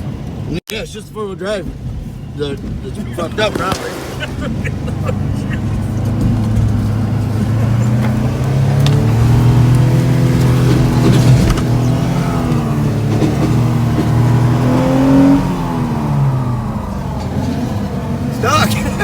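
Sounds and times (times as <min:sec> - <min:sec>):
truck engine revving: 0:01.5 - 0:19.0.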